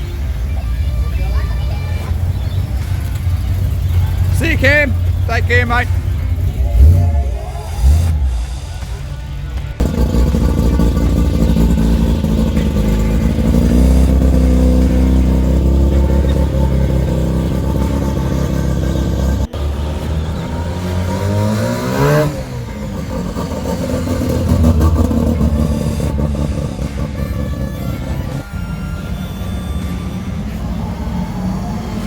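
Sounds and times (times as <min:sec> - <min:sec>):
car engine revving: 0:01.6 - 0:32.0.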